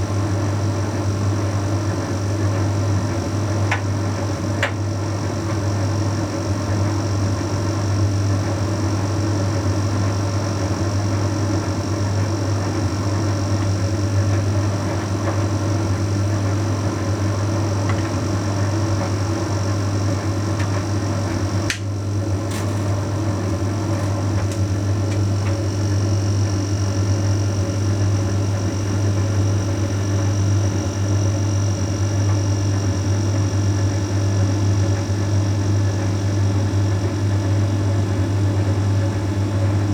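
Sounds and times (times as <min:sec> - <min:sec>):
tumble dryer hum: 0:00.0 - 0:39.9.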